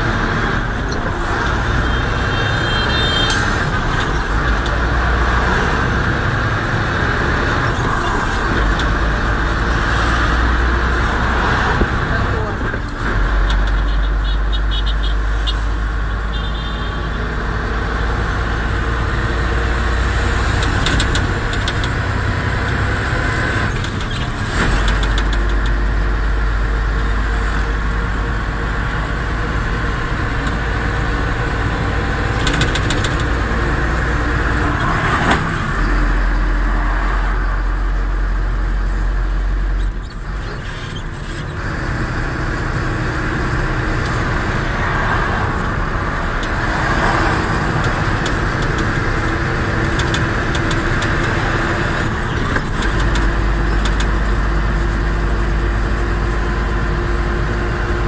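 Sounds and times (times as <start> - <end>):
diesel truck engine rumbling: 0.0 - 58.0.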